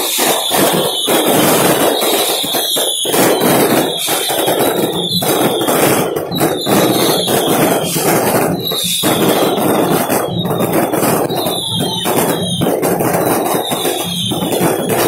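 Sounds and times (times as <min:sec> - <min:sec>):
fireworks and firecrackers crackling: 0:00.0 - 0:15.0
high falling whistle: 0:00.2 - 0:15.0.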